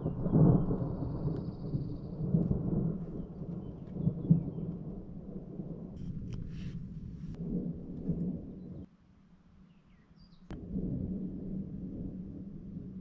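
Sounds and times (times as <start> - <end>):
distant thunder rumbling: 0.0 - 8.9, 10.5 - 13.0.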